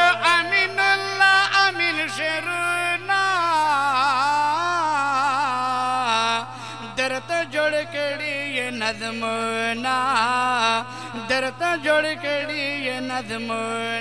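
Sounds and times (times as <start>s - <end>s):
man chanting through microphone: 0.0s - 14.0s.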